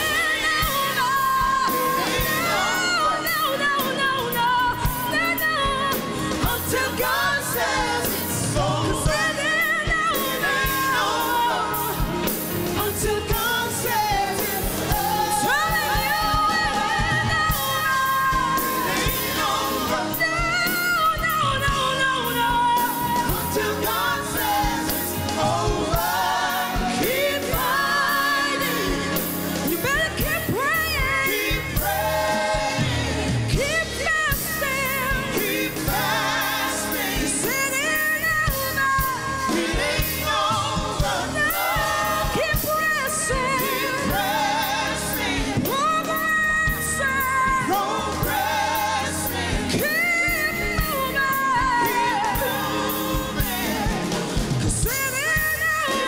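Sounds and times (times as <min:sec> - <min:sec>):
backing singers: 0:00.0 - 0:56.0
gospel band playing: 0:00.0 - 0:56.0
woman singing lead vocal: 0:00.0 - 0:56.0.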